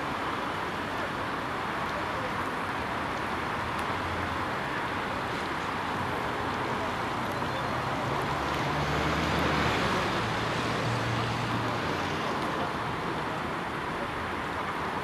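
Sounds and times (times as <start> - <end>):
urban traffic noise: 0.0 - 15.0.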